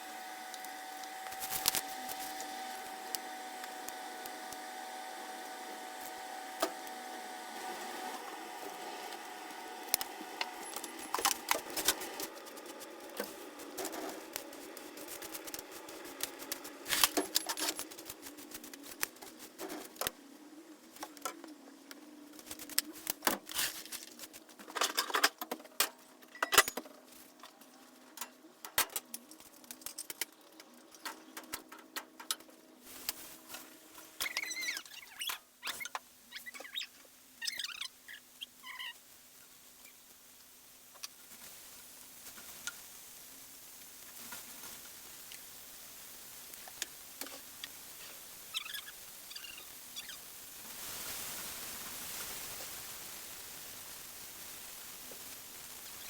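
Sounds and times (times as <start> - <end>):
wood fire crackling: 0.0 - 26.2, 27.0 - 56.0.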